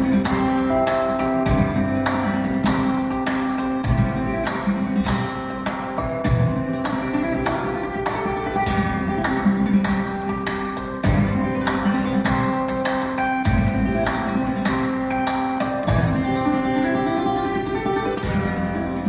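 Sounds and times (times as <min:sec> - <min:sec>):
percussion beat: 0:00.0 - 0:18.8
plucked guitar: 0:00.0 - 0:19.0.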